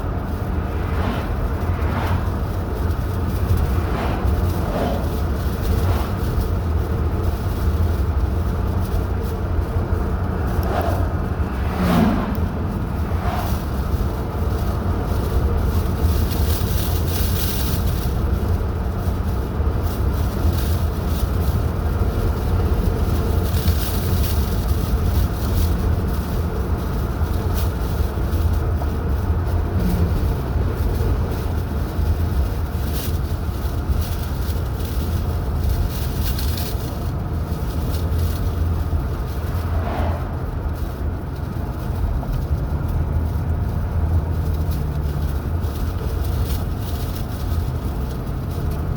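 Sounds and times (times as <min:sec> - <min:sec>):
car engine rumble: 0:00.0 - 0:48.9
tyres on road: 0:00.0 - 0:48.9.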